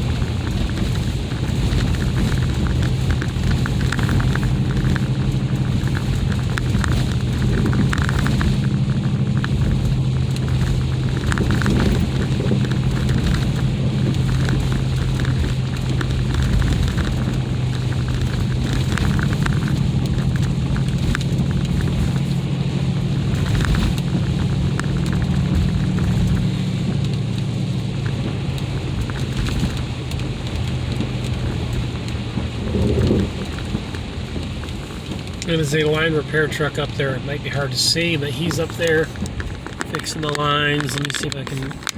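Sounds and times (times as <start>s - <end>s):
car engine and road drone: 0.0s - 41.9s
tyres crackling over ice: 0.0s - 41.9s.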